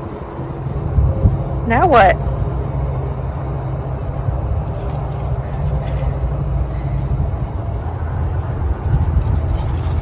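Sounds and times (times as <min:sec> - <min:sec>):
low bass rumble: 0:00.0 - 0:10.0.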